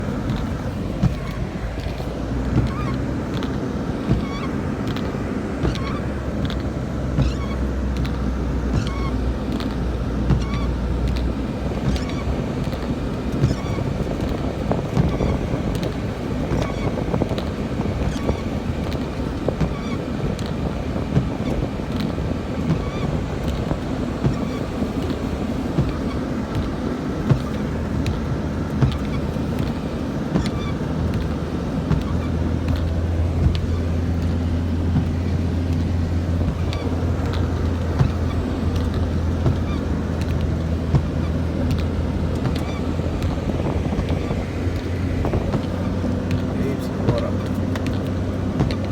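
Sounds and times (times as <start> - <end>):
car engine and tyre noise: 0.0 - 48.9
low engine drone: 0.0 - 48.9
windscreen wipers clicking: 0.0 - 48.9.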